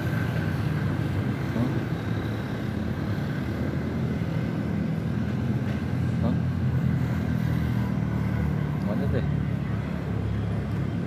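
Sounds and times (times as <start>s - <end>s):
drone propellers humming: 0.0s - 11.0s.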